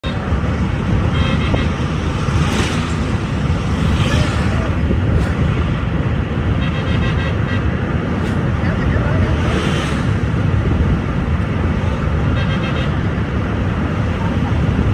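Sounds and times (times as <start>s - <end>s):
car engine and tyres rumbling: 0.0s - 14.9s.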